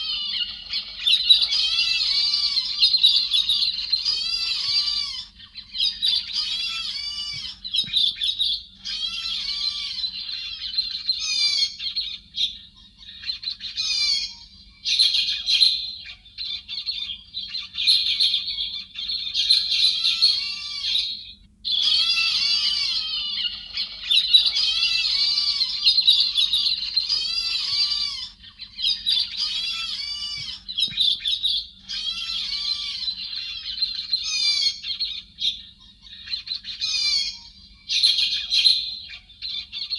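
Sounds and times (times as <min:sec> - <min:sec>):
bird chirps and squawks: 0:00.0 - 0:39.9.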